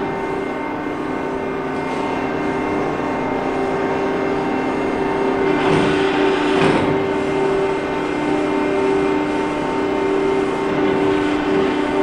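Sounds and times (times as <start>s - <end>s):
factory machinery hum: 0.0s - 12.0s.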